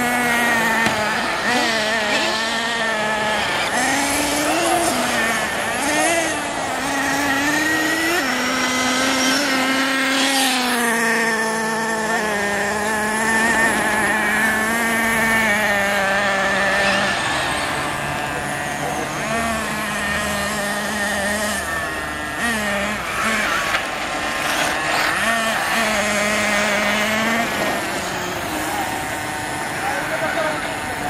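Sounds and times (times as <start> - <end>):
model car motors buzzing: 0.0 - 31.0.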